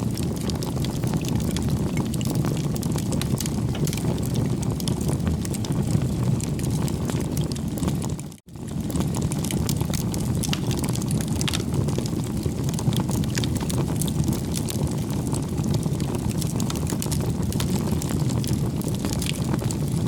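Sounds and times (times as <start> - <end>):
bonfire flames rushing: 0.0 - 20.0
burning wood crackling and popping: 0.0 - 20.0.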